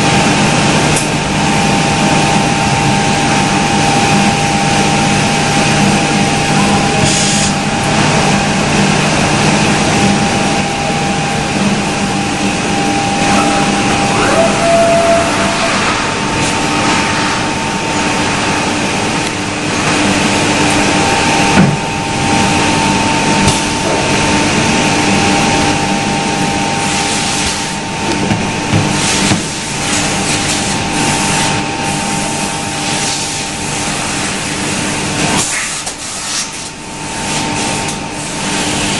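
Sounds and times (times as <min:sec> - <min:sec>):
woodworking machine whine: 0:00.0 - 0:35.4.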